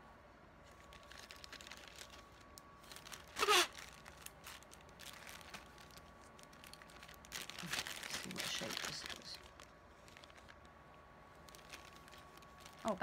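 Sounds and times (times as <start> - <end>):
plastic bag rustling and clicking: 0.6 - 10.8, 11.4 - 13.0.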